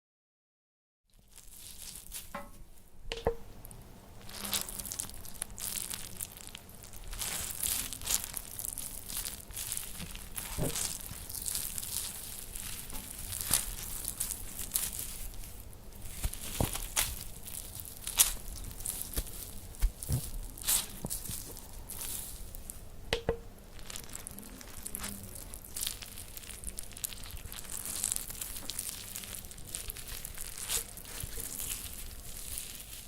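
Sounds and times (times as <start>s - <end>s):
sharp crunches and tearing: 1.1s - 2.4s, 4.2s - 22.8s, 23.7s - 33.0s
scraping and rustling: 4.2s - 33.0s.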